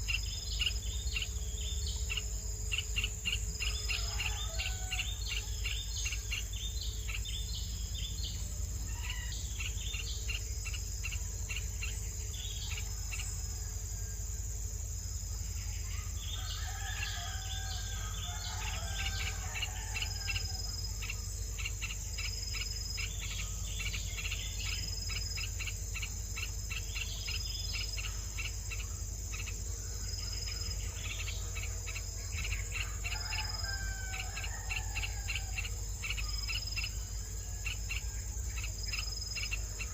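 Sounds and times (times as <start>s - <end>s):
high insect drone: 0.0s - 39.9s
low warbling bird calls: 0.0s - 39.9s
rapid bird chirps: 0.0s - 39.9s.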